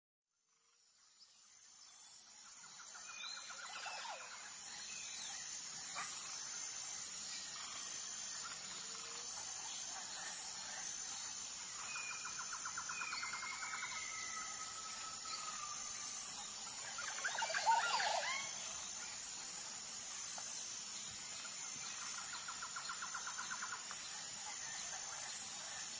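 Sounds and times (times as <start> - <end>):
high insect hiss: 0.5 - 25.9.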